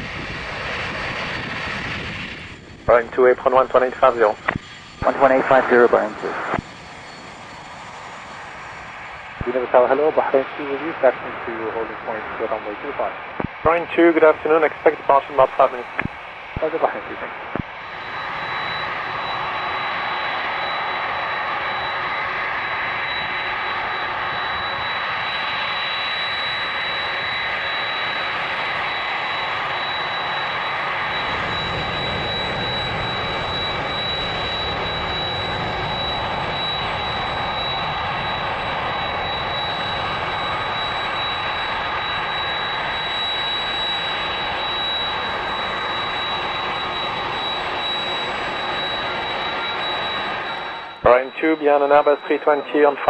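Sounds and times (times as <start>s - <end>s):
jet engines roaring and whining: 0.0s - 53.0s.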